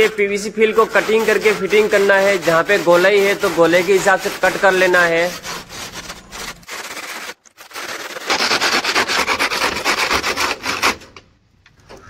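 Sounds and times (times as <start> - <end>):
hand saw rasping through plastic: 0.0 - 11.2.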